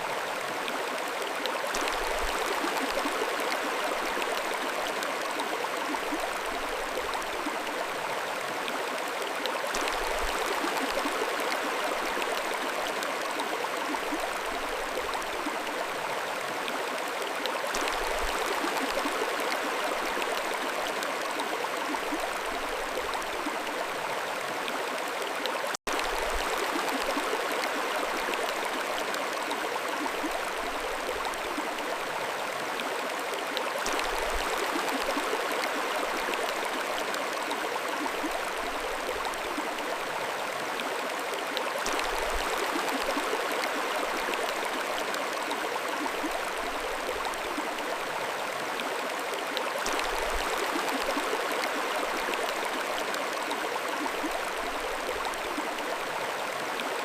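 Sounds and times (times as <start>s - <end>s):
mountain stream babbling: 0.0s - 57.0s.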